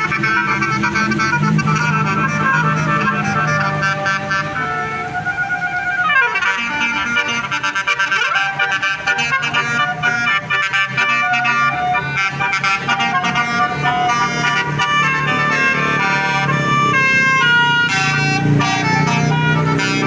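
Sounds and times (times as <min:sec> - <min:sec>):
bus horn playing a tune: 0:00.0 - 0:20.0.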